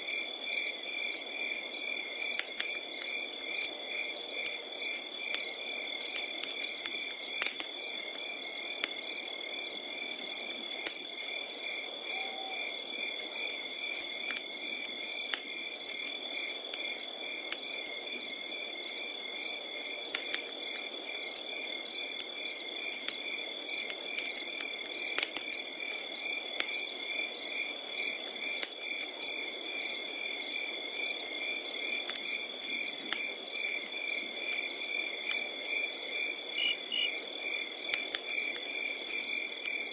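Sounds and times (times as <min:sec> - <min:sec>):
crickets trilling: 0:00.0 - 0:39.9
wood fire crackling and popping: 0:00.0 - 0:39.9.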